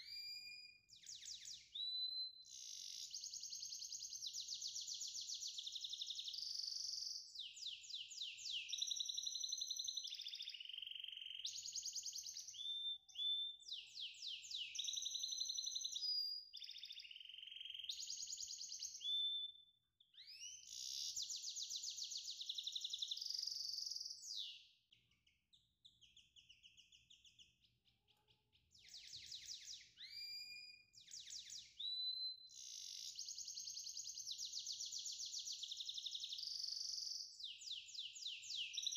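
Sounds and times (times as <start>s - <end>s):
songbird trilling and whistling: 0.0s - 27.8s, 28.7s - 38.9s.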